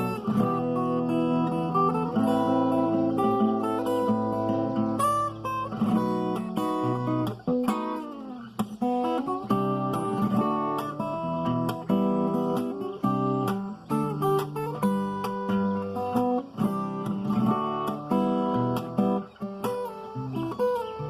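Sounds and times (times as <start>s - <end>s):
fingerstyle acoustic guitar: 0.0s - 21.0s.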